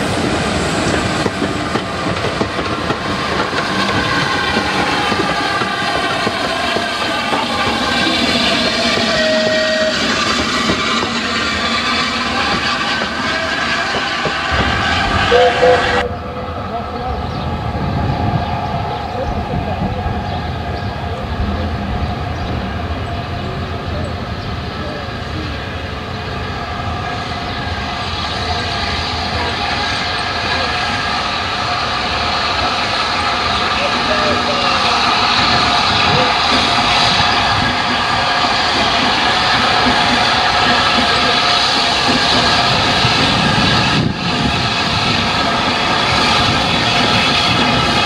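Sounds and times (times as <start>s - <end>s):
steam locomotive rumble and hiss: 0.0s - 48.0s.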